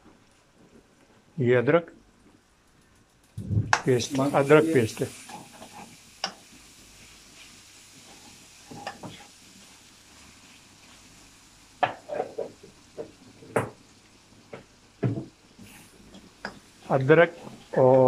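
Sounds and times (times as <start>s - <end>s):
faint frying sizzle: 0.0s - 18.0s.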